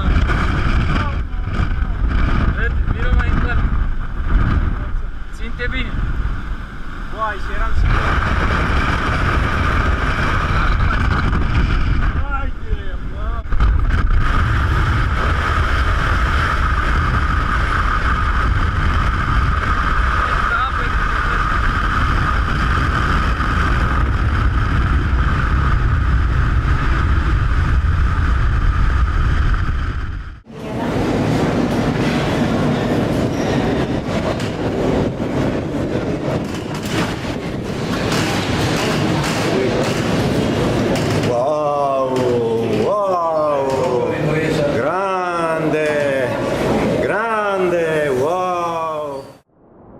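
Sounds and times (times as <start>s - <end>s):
heavy ocean surf roaring: 0.0s - 29.0s, 30.4s - 49.5s
wind buffeting microphone: 0.0s - 44.8s
rushing wind and sea: 0.0s - 49.9s.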